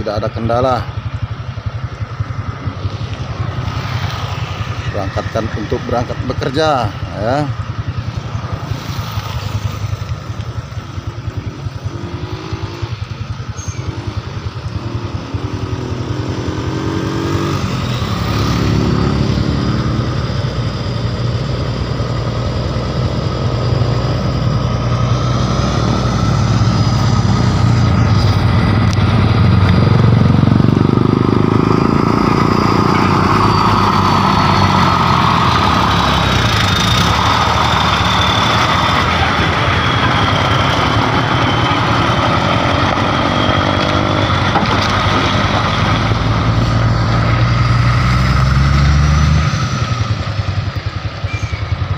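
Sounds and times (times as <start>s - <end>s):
diesel truck engine accelerating: 0.0s - 51.9s.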